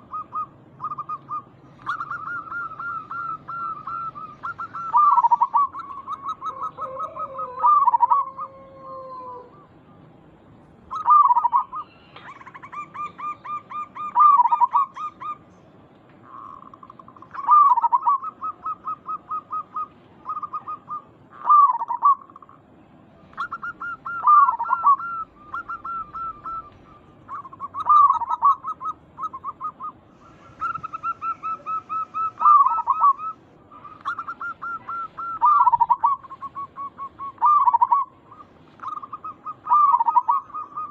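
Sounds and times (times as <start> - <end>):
dove cooing: 0.0 - 9.8, 10.9 - 15.5, 16.2 - 22.6, 23.3 - 40.9.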